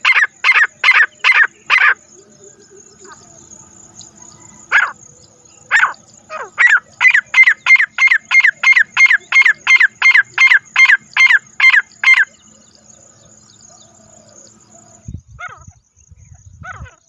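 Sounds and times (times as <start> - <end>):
francolin calling: 0.0 - 17.0.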